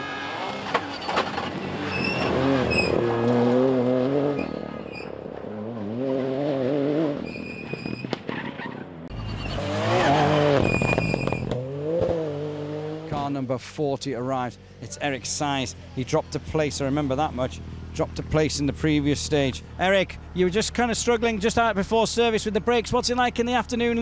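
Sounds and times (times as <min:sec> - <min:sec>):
rally car engine at full throttle: 0:00.0 - 0:24.0.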